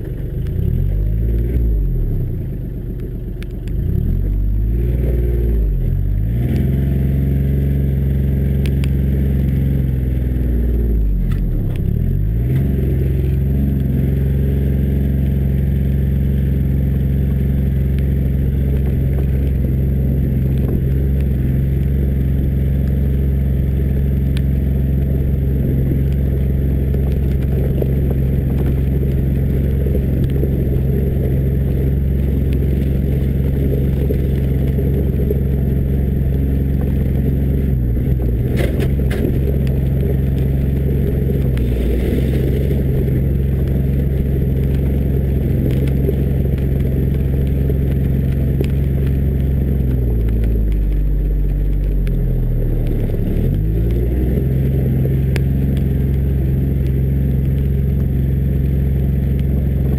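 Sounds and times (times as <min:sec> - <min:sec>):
diesel engine running: 0:00.0 - 0:59.9
tyres crunching over gravel: 0:08.3 - 0:59.9.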